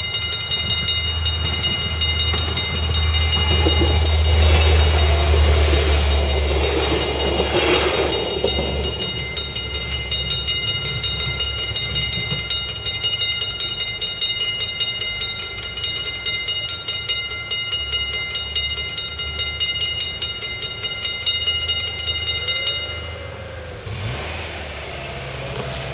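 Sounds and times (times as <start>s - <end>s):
level-crossing bell ringing: 0.0s - 24.5s
train rumble: 0.0s - 25.9s.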